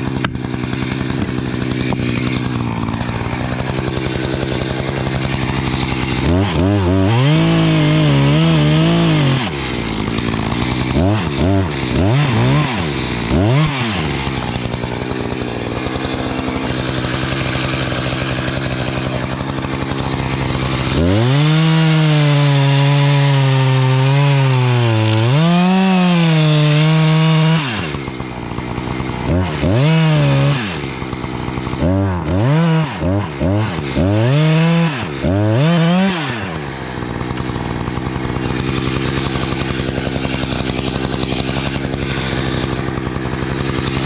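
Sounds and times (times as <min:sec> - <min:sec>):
chainsaw revving: 0:00.0 - 0:44.0.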